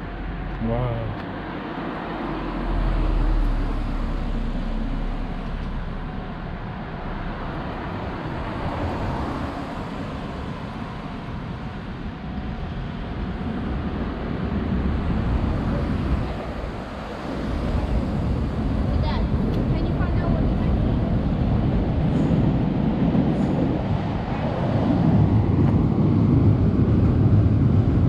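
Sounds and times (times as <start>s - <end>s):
cars passing on street: 0.0s - 28.0s.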